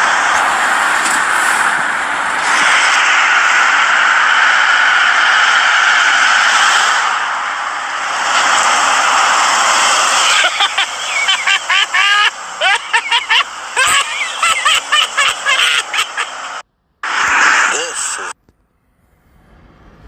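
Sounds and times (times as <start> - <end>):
steady hiss: 0.0 - 18.4.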